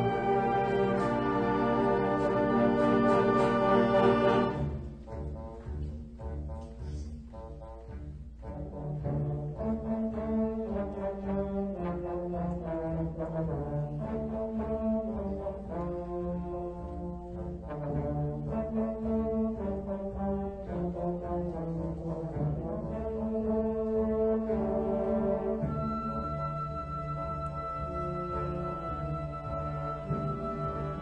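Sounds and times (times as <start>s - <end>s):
orchestral music with brass chords: 0.0s - 31.0s.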